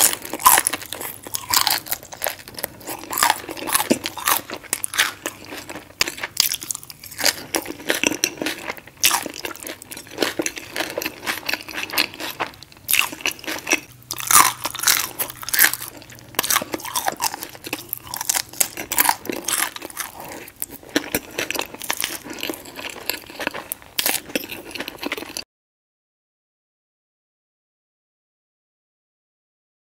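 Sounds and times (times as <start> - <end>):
person chewing crispy food: 0.0 - 25.4.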